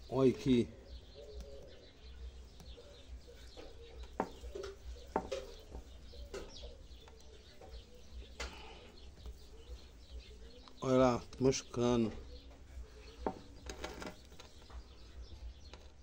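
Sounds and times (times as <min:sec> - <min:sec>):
small birds chirping: 0:00.0 - 0:16.0
dove cooing: 0:00.4 - 0:10.8, 0:12.0 - 0:15.6.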